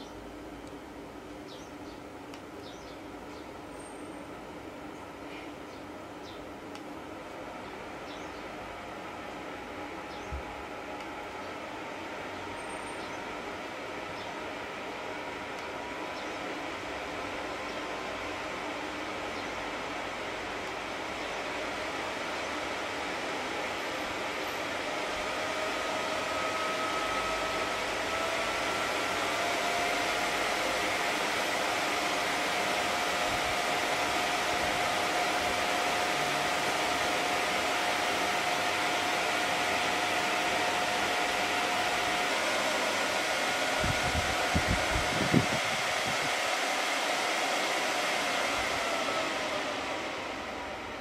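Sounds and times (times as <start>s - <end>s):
air purifier fan blowing: 0.0s - 51.0s
faint motor whine: 0.0s - 51.0s.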